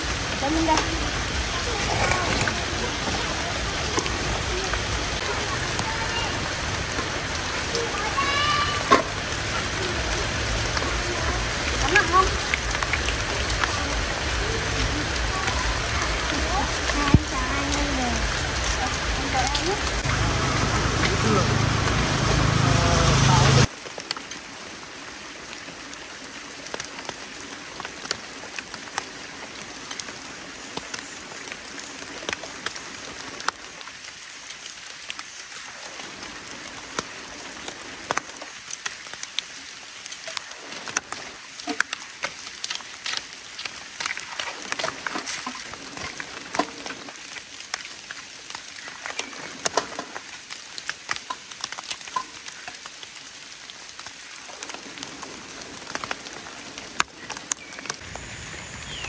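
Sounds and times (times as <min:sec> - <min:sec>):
raindrop ticks: 0:00.0 - 0:22.6, 0:23.6 - 0:59.0
rain hissing: 0:00.0 - 0:59.0.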